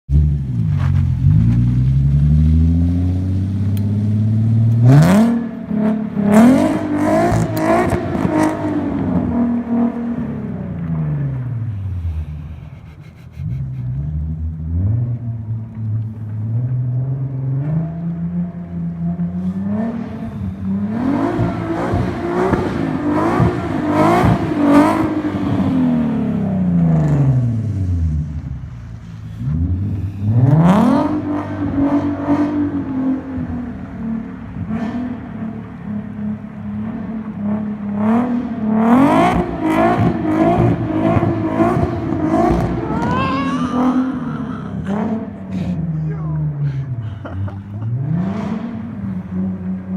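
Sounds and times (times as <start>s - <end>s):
car engine revving: 0.1s - 49.9s.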